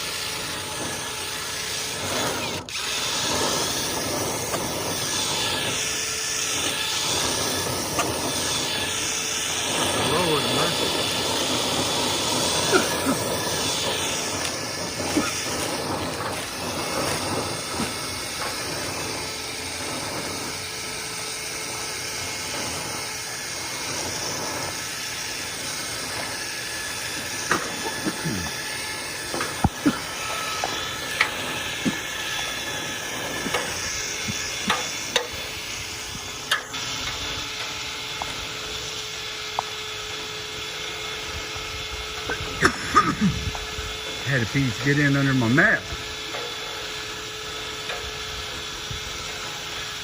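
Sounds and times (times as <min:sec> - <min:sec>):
air rushing through duct: 0:00.0 - 0:50.0.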